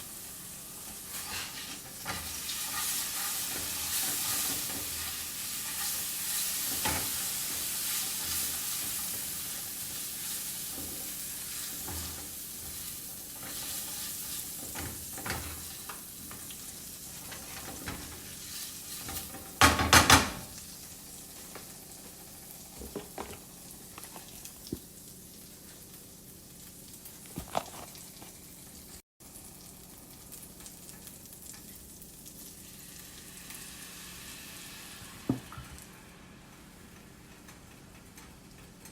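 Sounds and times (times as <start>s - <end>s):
food sizzling in a frying pan: 0.0s - 38.9s.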